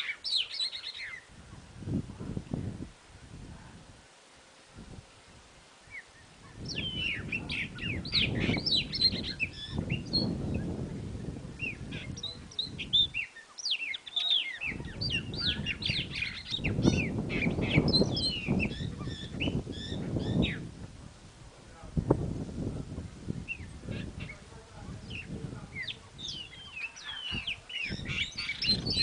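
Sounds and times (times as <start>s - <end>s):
birds chirping: 0.0s - 2.8s, 5.7s - 20.9s, 21.7s - 29.0s.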